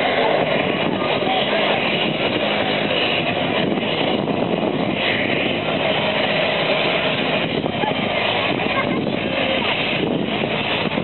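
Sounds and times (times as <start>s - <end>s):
distant jet airliner engine: 0.0s - 11.0s.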